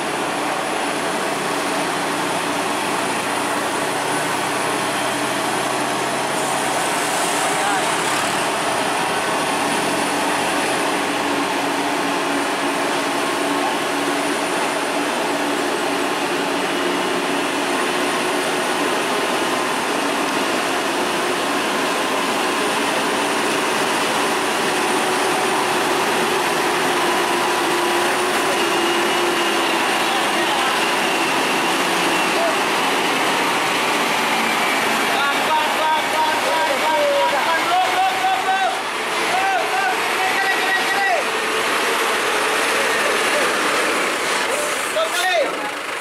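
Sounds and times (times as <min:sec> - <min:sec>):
truck diesel engine under load: 0:00.0 - 0:46.0.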